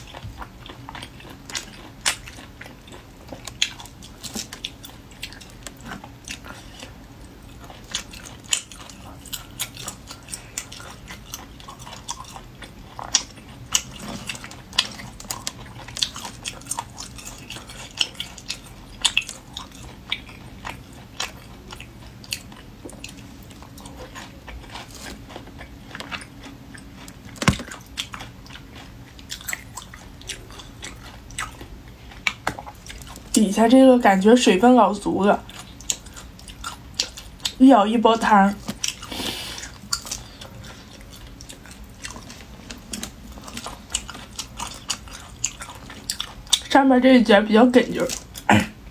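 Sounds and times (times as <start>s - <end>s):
wet chewing and smacking: 0.0s - 33.5s, 34.8s - 46.8s, 47.7s - 48.9s.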